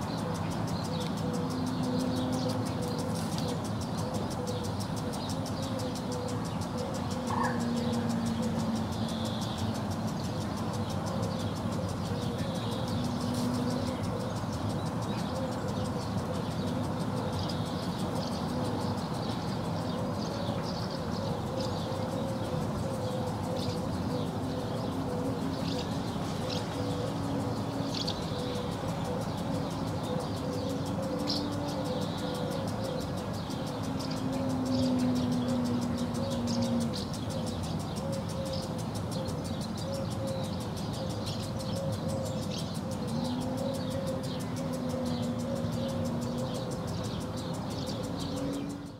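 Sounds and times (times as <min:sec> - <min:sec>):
birds twittering: 0:00.0 - 0:48.9
distant traffic rumble: 0:00.0 - 0:48.9.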